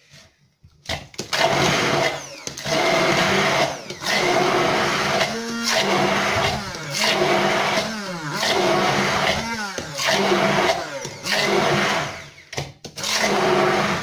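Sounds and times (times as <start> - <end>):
immersion blender crushing ice: 0.9 - 14.0.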